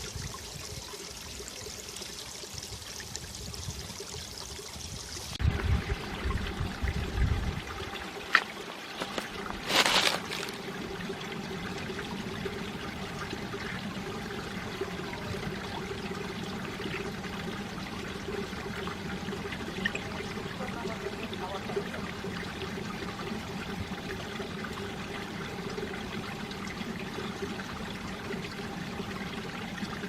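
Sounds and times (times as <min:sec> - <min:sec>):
stream water over rocks: 0:00.0 - 0:30.0.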